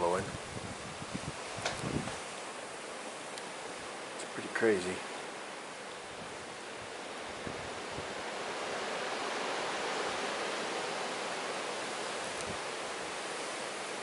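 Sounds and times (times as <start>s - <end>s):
blizzard wind blowing: 0.0s - 14.0s.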